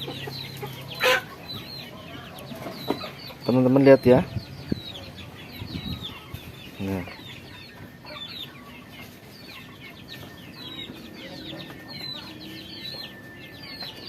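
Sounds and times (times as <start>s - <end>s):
chickens clucking and peeping: 0.0s - 14.0s.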